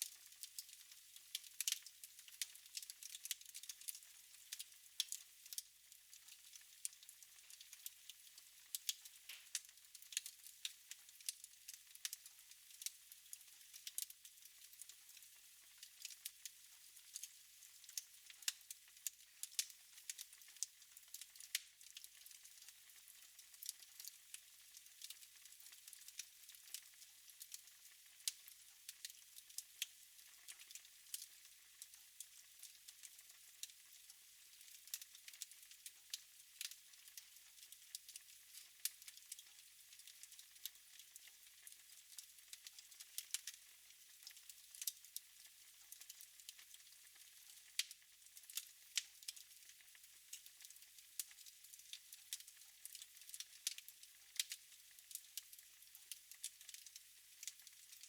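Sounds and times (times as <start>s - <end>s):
wood fire crackling: 0.0s - 24.2s, 24.8s - 26.9s, 27.5s - 31.3s, 32.6s - 33.7s, 34.6s - 35.8s, 36.6s - 43.6s, 44.2s - 45.0s, 46.0s - 58.0s.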